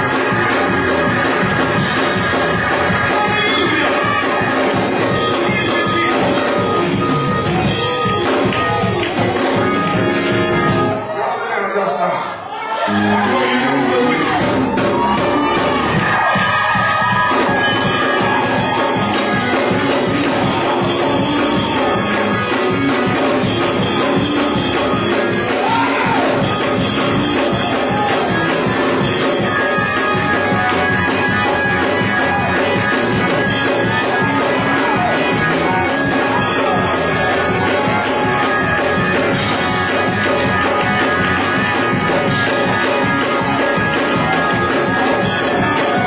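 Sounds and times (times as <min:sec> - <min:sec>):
band playing up-tempo praise music: 0:00.0 - 0:46.0.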